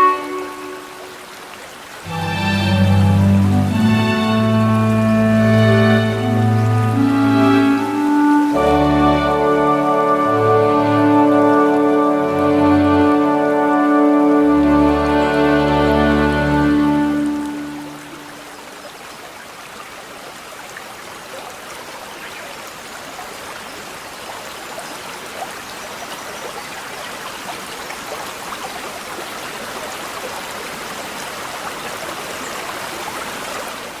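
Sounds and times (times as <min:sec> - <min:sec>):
brook water trickling over stones: 0:00.0 - 0:34.0.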